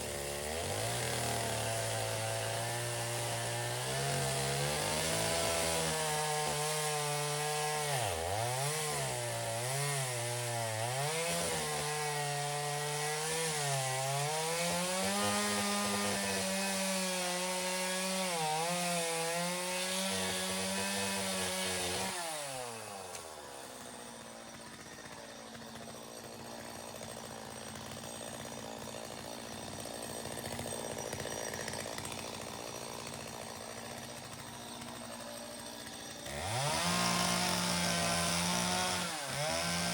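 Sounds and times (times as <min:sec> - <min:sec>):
chainsaw cutting branches: 0:00.0 - 0:39.9.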